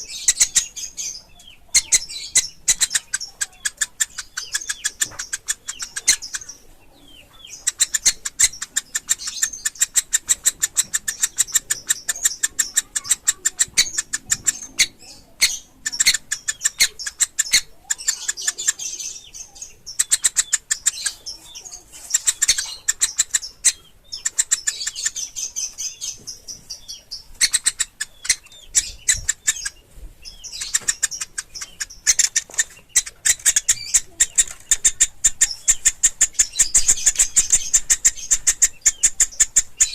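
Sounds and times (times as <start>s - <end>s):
woodpecker chicks chittering: 0.0s - 39.9s.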